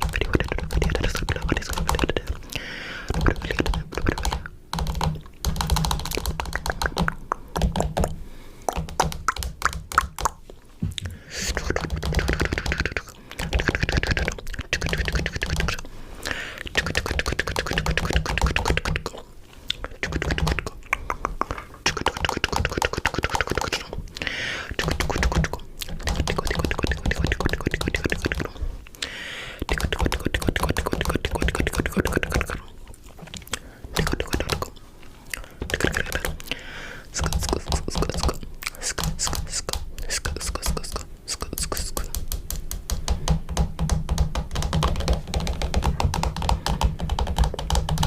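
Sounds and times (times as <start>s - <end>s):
rapid clicking and tapping: 0.0s - 2.4s, 3.1s - 10.4s, 11.4s - 15.9s, 16.7s - 19.2s, 19.9s - 23.9s, 24.7s - 28.5s, 29.6s - 32.6s, 34.0s - 34.7s, 35.6s - 36.5s, 37.2s - 48.0s.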